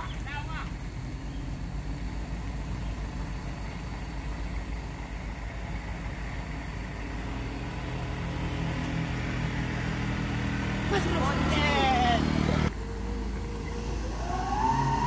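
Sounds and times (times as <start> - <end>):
motorcycle engine approaching: 0.0 - 15.0
traffic engine hum: 0.0 - 15.0.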